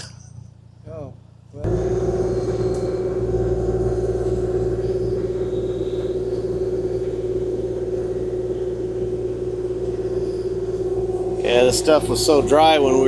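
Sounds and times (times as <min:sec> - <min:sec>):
excavator diesel engine running: 0:01.7 - 0:13.0.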